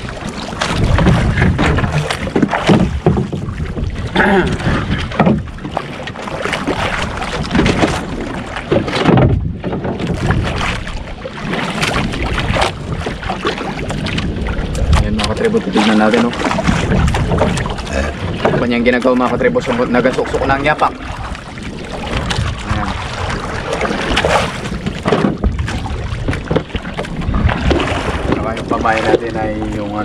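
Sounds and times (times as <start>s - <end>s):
water splashing against canoe: 0.0s - 30.0s
wind buffeting microphone: 0.0s - 30.0s.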